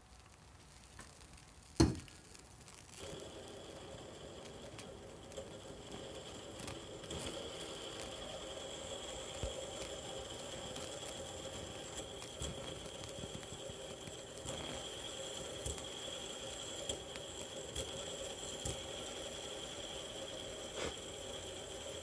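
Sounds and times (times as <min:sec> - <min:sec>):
fire hissing: 0:00.0 - 0:22.0
small crackles: 0:00.0 - 0:22.0.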